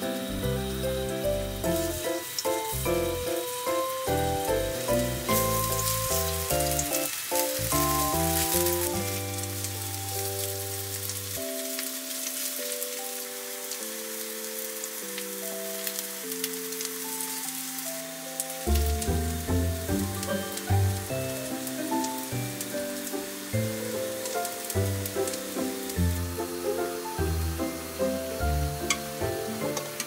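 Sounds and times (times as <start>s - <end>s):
light cheerful background music: 0.0s - 30.0s
patties sizzling in oil: 0.0s - 30.0s.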